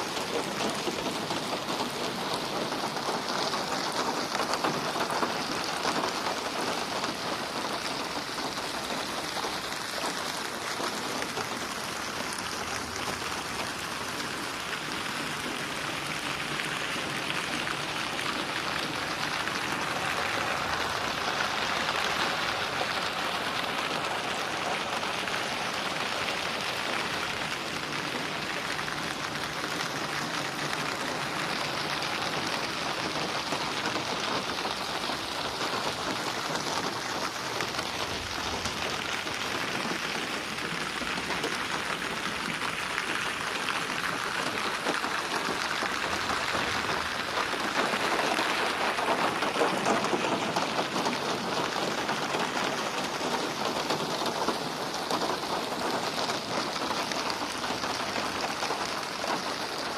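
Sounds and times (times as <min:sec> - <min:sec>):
rain splashing on a surface: 0:00.0 - 0:59.9.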